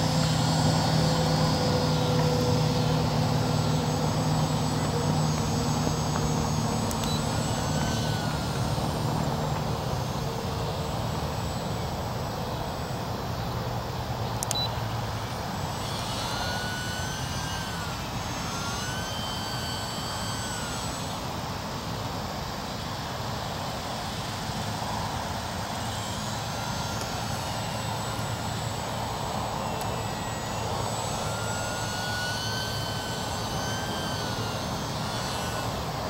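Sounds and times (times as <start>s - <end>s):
model plane motor whining: 0.0s - 36.0s.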